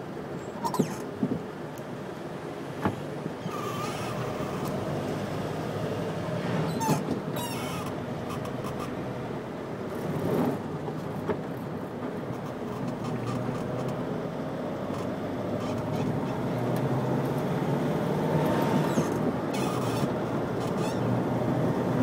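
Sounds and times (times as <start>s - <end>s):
road noise inside car: 0.0s - 22.0s
car engine: 3.2s - 22.0s.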